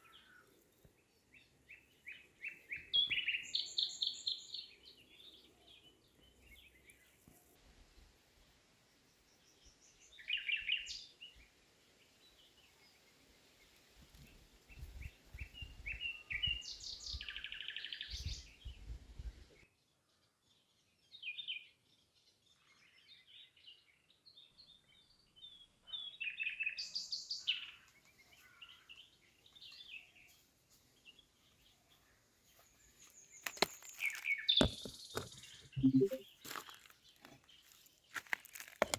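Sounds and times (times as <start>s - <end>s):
small birds chirping and trilling: 0.0s - 7.6s, 8.8s - 38.9s.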